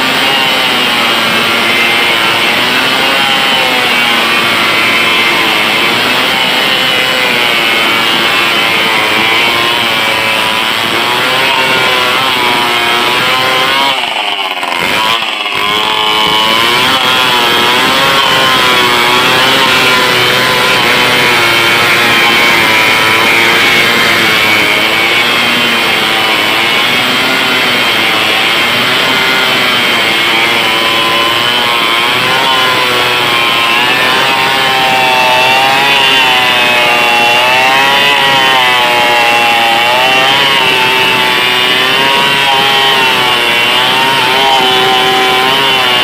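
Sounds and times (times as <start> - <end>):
chainsaw cutting through log: 0.0 - 46.0.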